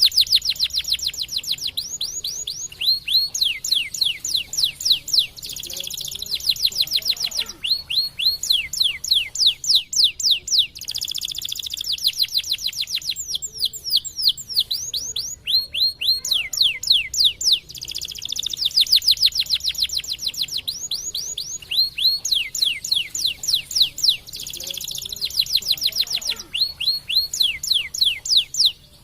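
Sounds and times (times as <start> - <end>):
canary singing trills: 0.0 - 29.0.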